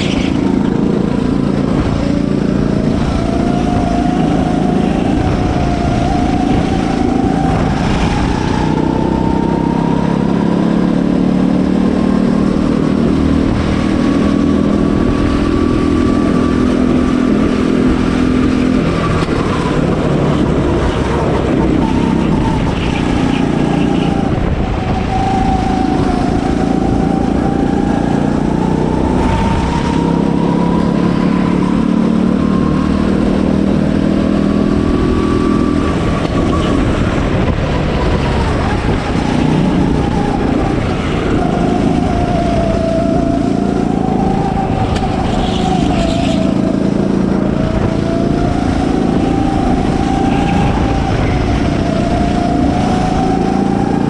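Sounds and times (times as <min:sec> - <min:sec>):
go-kart motor at speed: 0:00.0 - 0:54.0.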